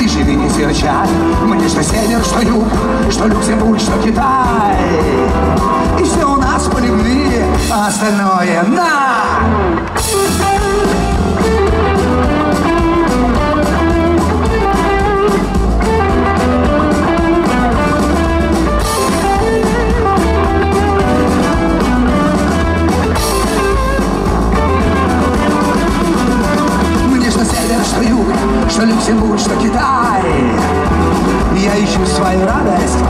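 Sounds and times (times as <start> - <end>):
bass guitar: 0.0 - 33.0
drum kit: 0.0 - 33.0
electric guitar lead: 0.0 - 33.0.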